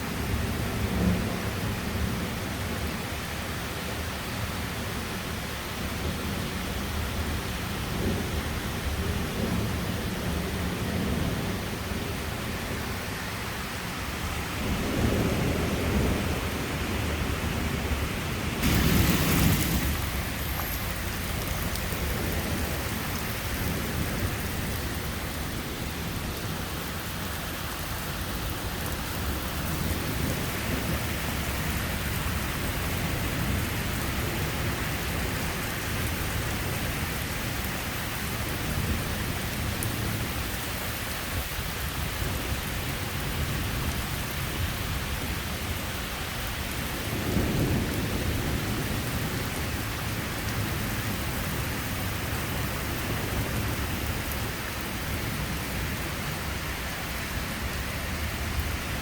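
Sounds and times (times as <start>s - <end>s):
heavy rain pouring: 0.0s - 59.0s
low rumble of thunder: 0.1s - 3.2s, 5.8s - 13.0s, 14.1s - 58.8s.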